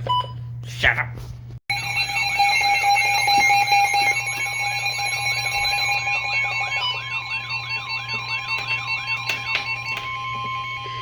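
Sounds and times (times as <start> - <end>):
steady alarm tones: 1.7 - 11.0
warbling siren-like tone: 1.7 - 11.0.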